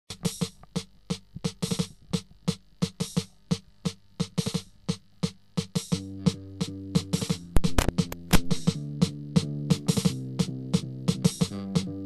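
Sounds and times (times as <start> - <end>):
drum machine beat: 0.1 - 12.0.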